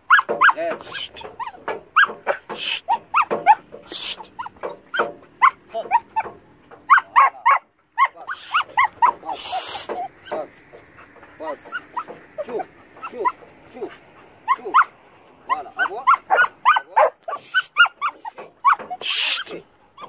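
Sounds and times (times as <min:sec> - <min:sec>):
dog barking and yelping: 0:00.0 - 0:20.0.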